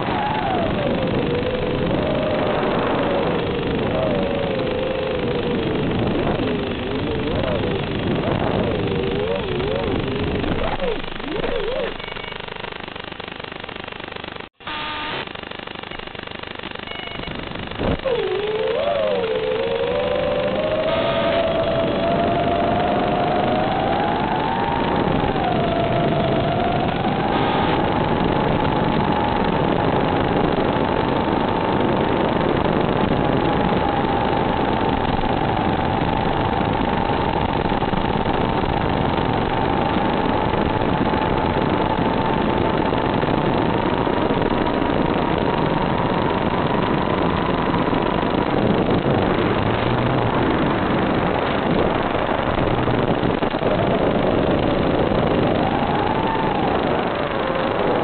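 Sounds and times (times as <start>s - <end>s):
static hiss: 0.0s - 58.0s
thin whine: 0.0s - 58.0s.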